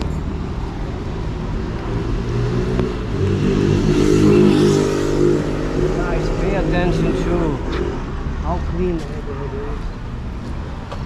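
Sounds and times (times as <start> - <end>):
vehicle engine accelerating: 0.0 - 10.9
city street traffic: 0.0 - 11.0.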